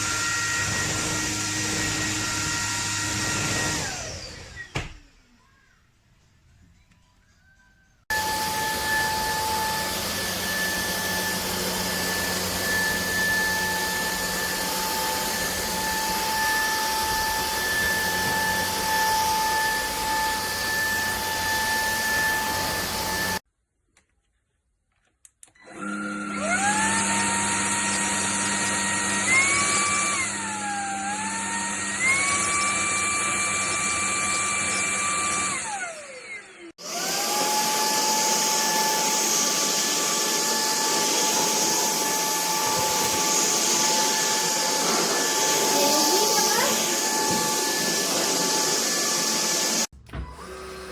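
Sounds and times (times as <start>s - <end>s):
stick vacuum motor whining: 0.0s - 5.1s, 8.1s - 23.4s, 25.6s - 50.9s.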